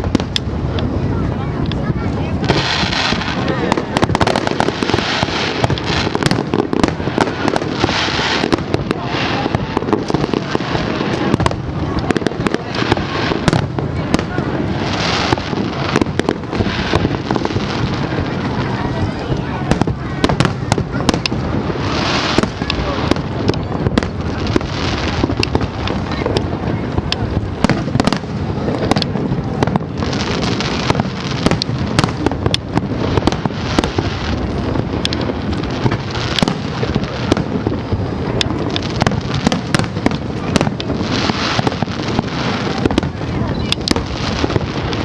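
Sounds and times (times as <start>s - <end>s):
fireworks bangs and crackles: 0.0s - 45.0s
rumble of fireworks bursts: 0.0s - 45.0s.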